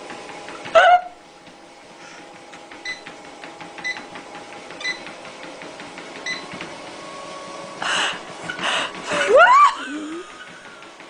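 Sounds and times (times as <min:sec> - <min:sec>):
treadmill motor and belt: 0:00.0 - 0:11.0.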